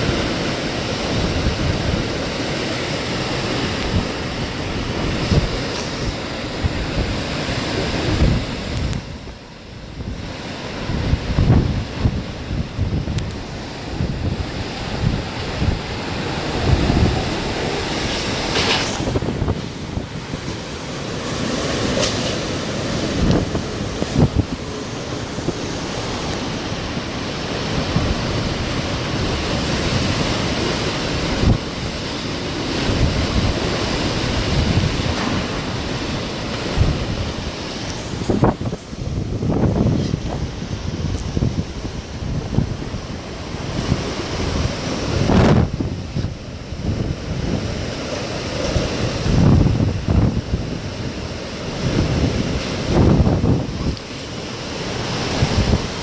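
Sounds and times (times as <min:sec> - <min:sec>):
strong wind rushing: 0:00.0 - 0:56.0
wind buffeting microphone: 0:00.0 - 0:56.0.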